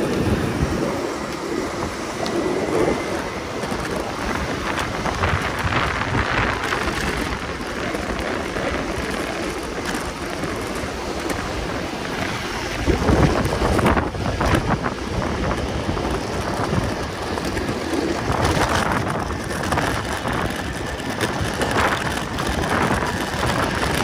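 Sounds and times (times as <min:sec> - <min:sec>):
street and rolling noise: 0:00.0 - 0:24.0
wind on microphone: 0:00.0 - 0:24.0.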